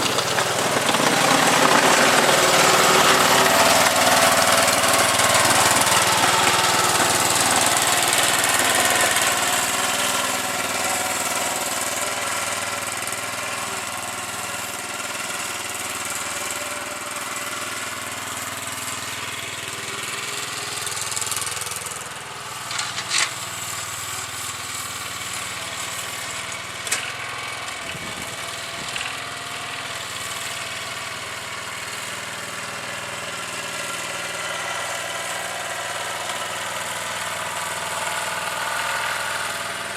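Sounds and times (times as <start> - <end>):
riding lawnmower engine running: 0.0 - 39.9.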